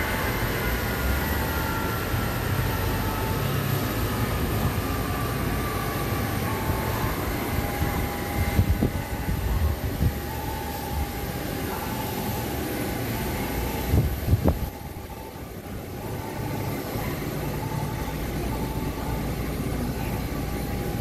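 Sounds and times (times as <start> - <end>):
jet engines winding down: 0.0 - 21.0.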